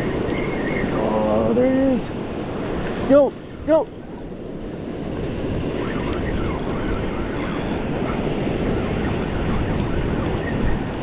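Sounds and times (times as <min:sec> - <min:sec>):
surf washing over rocks: 0:00.0 - 0:11.0
wind on the microphone: 0:00.0 - 0:11.0.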